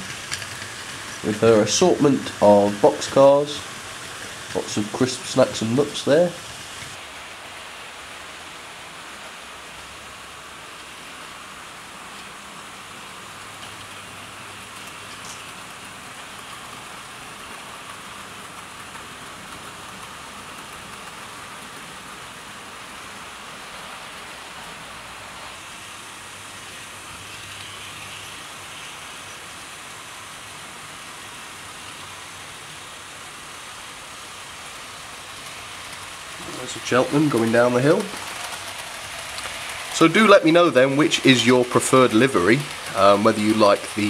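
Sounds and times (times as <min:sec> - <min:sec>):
model trains rolling on rails: 0:00.0 - 0:44.0.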